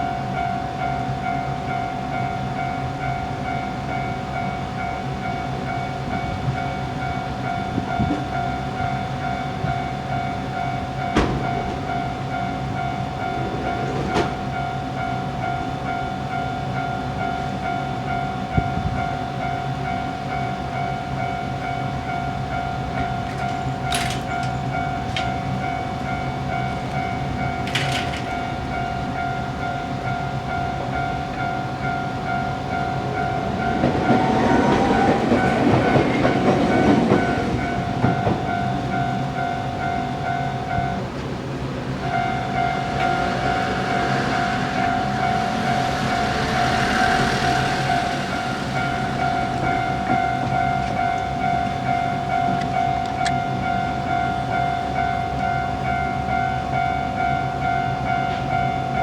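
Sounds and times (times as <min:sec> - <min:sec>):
level crossing alarm bell ringing: 0:00.0 - 0:59.0
train passing: 0:00.0 - 0:59.0.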